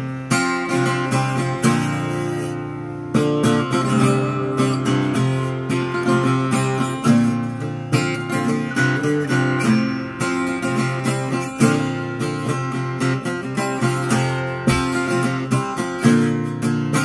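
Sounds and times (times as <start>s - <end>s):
acoustic guitar flatpicked solo: 0.0s - 17.0s.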